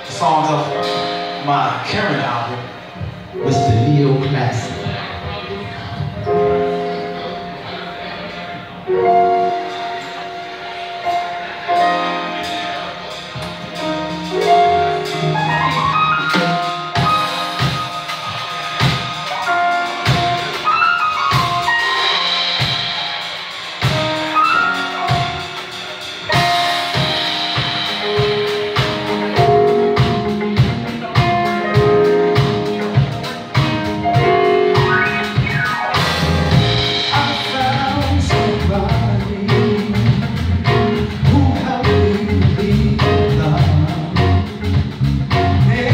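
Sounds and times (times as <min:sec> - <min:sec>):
drum kit beat: 0:00.0 - 0:07.6, 0:08.9 - 0:45.9
live band instrumental: 0:00.0 - 0:45.9.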